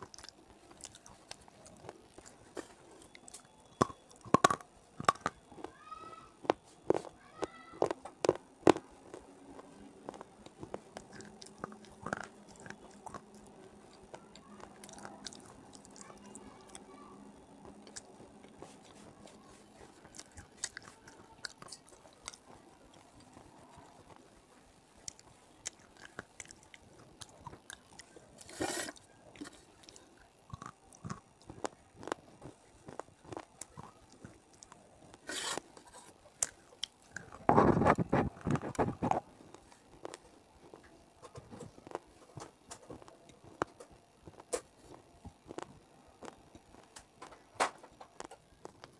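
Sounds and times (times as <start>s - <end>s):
biting and chewing crunchy food: 0.0s - 48.9s.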